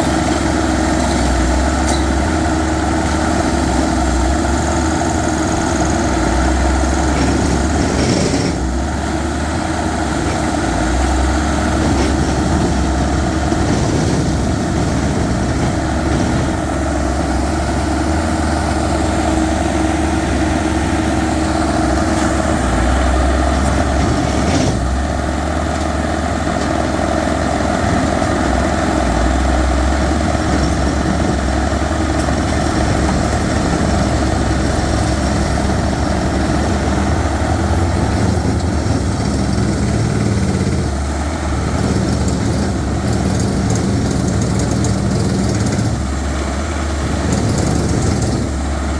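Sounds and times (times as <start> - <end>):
rock drilling machine drone: 0.0 - 48.9.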